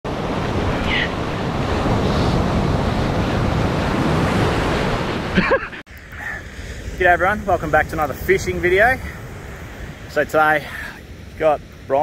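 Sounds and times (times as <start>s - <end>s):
ocean surf breaking: 0.1s - 12.0s.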